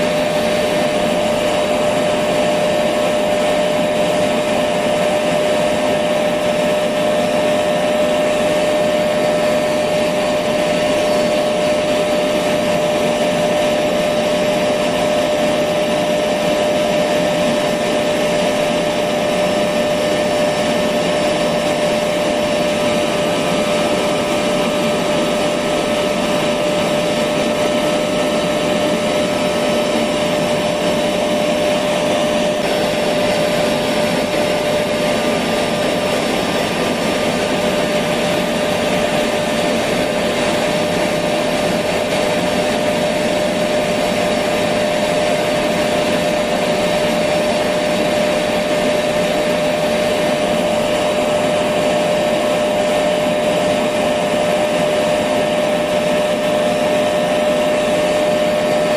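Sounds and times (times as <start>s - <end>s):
vacuum cleaner running: 0.0s - 58.9s.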